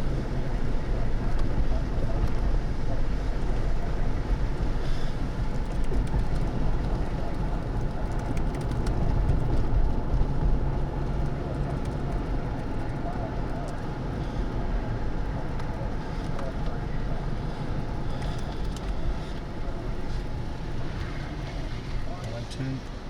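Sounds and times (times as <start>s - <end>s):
vehicle driving rumble: 0.0s - 23.0s.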